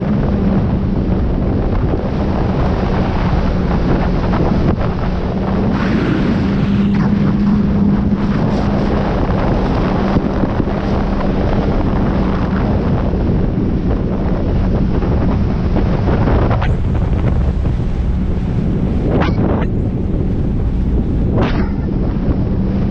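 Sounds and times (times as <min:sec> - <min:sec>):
jet ski engine humming: 0:00.0 - 0:22.9
rushing water: 0:00.0 - 0:22.9
wind buffeting microphone: 0:00.0 - 0:22.9.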